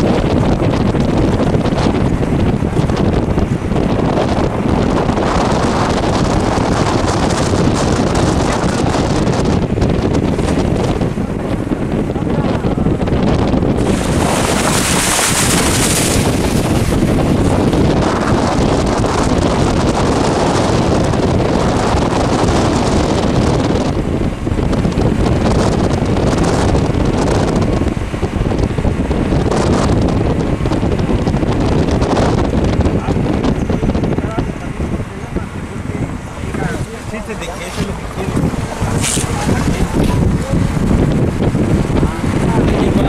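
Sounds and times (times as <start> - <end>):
wind blowing on microphone: 0.0 - 43.0.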